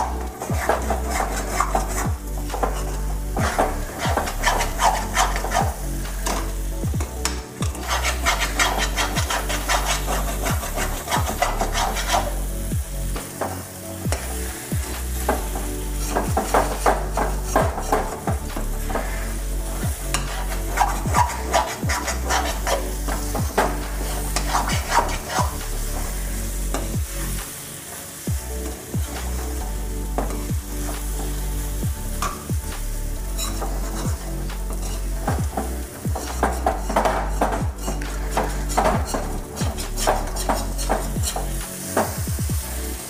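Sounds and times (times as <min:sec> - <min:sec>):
metal spatula scraping a pan: 0:00.0 - 0:12.6, 0:13.2 - 0:29.5, 0:33.3 - 0:42.2
paste sizzling: 0:00.0 - 0:43.0.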